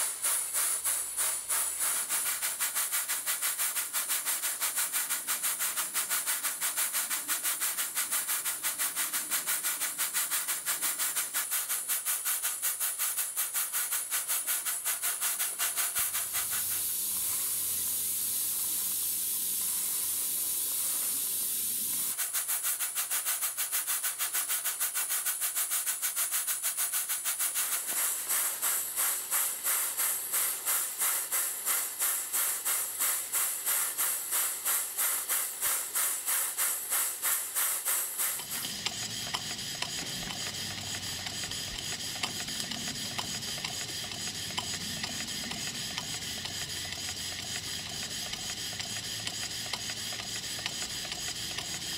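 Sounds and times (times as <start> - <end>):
steam engine exhaust beats: 0.0 - 51.9
steam hiss: 0.0 - 51.9.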